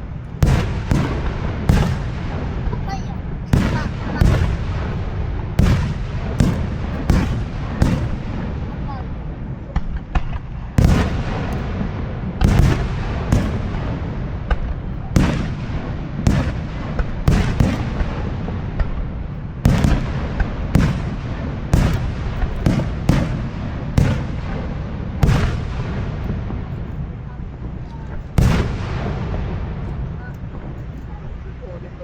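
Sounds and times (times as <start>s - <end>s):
fireworks booming with echo: 0.0s - 31.9s
continuous low rumble: 0.0s - 32.0s.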